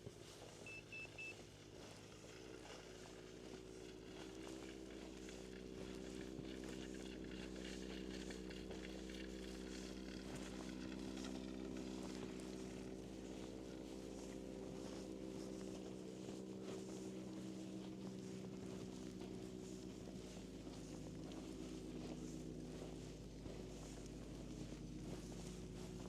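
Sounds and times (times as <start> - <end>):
footsteps crunching in snow: 0.0 - 26.0
low mechanical hum: 0.0 - 26.0.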